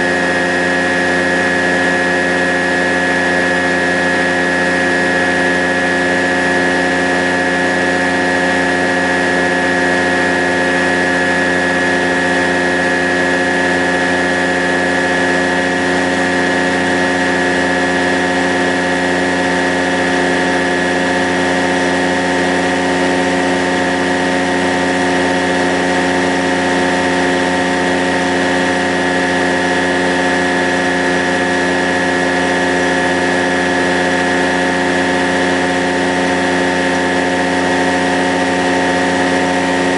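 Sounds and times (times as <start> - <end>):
light aircraft engine and propeller drone: 0.0 - 39.9.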